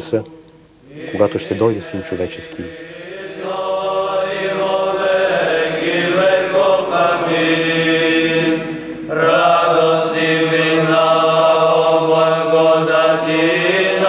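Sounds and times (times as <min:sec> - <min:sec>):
men's choir chanting a cappella: 0:00.8 - 0:14.0.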